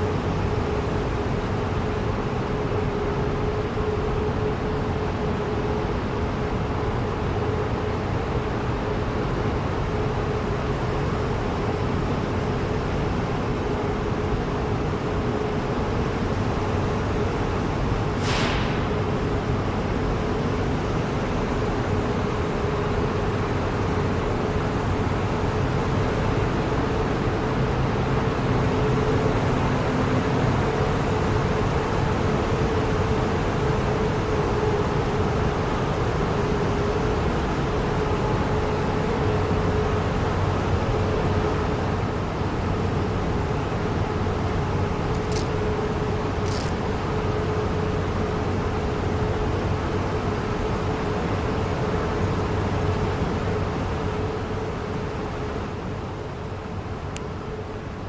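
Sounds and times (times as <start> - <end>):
constant hum: 0.0 - 58.0
subway train rumbling: 0.0 - 58.0.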